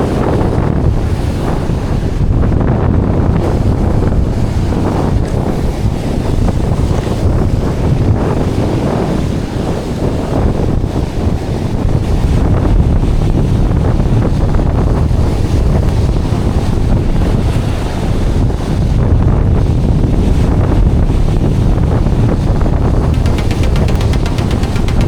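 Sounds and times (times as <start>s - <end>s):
wind blowing across microphone: 0.0s - 25.0s.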